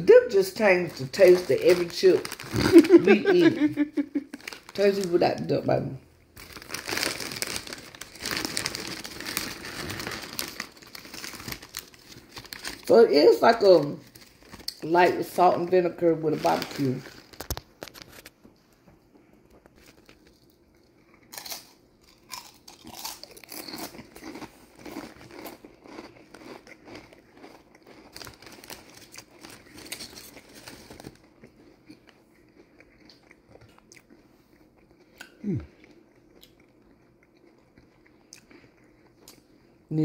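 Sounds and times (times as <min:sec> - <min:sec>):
chewing crunchy potato chips: 0:00.2 - 0:05.2, 0:06.4 - 0:12.9, 0:13.5 - 0:14.9, 0:19.6 - 0:39.8.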